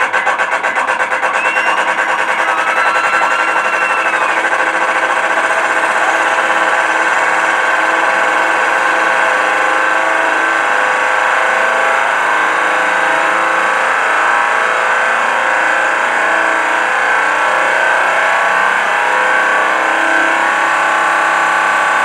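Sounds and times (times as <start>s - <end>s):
loud bass-heavy car audio: 0.0s - 22.0s.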